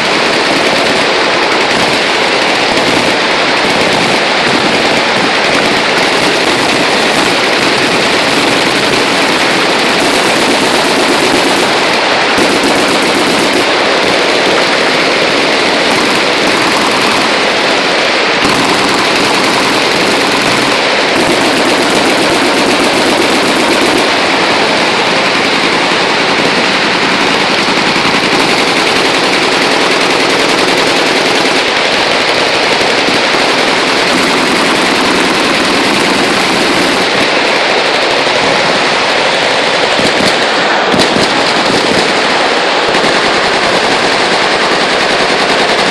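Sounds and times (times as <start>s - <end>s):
automatic machine-gun fire: 0.0s - 45.9s.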